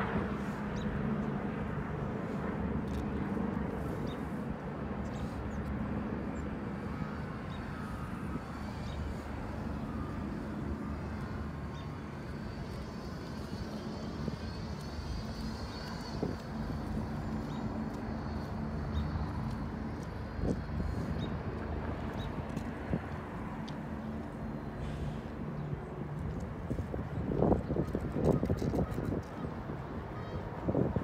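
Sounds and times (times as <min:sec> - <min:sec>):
faint whining tones: 0:02.2 - 0:27.3.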